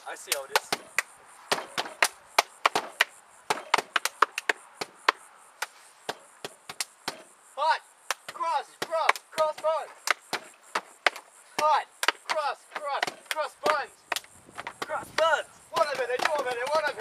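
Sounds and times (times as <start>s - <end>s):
hand claps and slaps: 0.2s - 7.2s, 8.1s - 17.0s.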